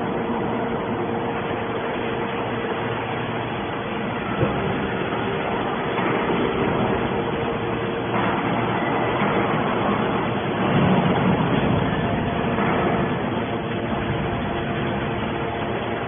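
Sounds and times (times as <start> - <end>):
baler machine hum: 0.0 - 16.0.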